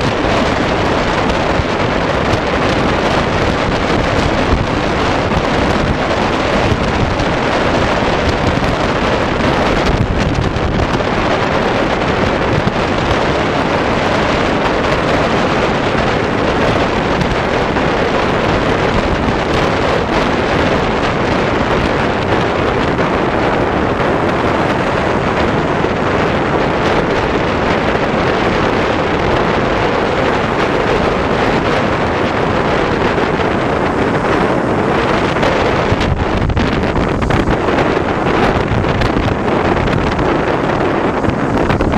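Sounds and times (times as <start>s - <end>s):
motorcycle running: 0.0s - 41.9s
wind rushing over microphone: 0.0s - 41.9s.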